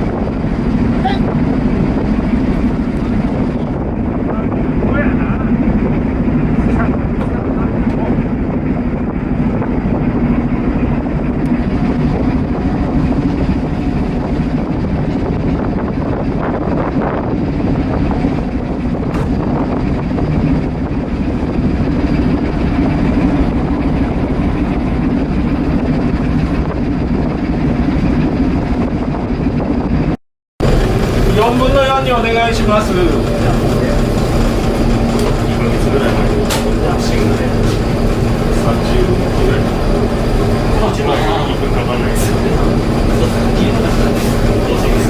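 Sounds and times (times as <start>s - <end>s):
ship diesel engine humming: 0.0s - 45.0s.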